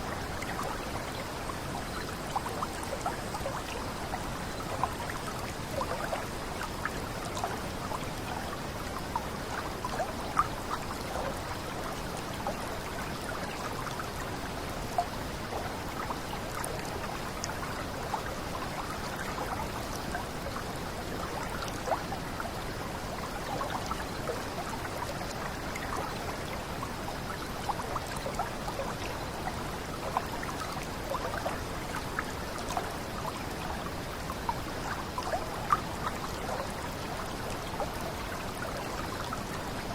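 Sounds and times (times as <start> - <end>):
small water cascade: 0.0 - 39.9
water splashes and drips: 0.0 - 39.9.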